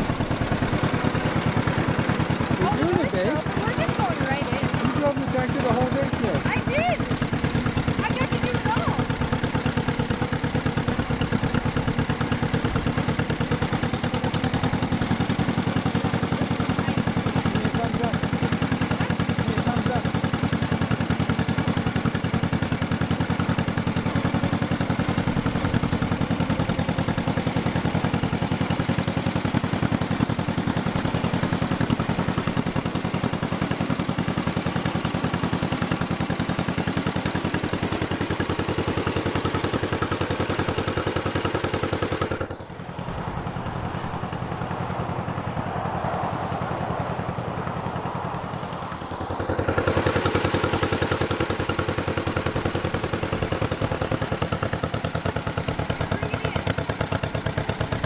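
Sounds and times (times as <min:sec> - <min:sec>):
tractor engine clattering: 0:00.0 - 0:58.0.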